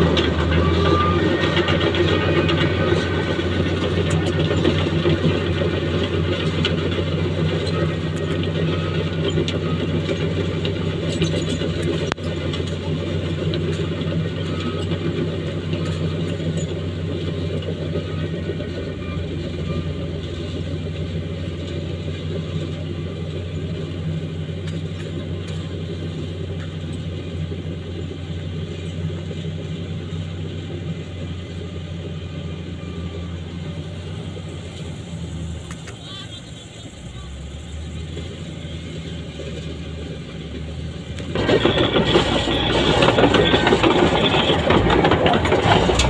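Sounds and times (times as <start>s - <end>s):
bulldozer diesel engine rumbling: 0.0s - 46.0s.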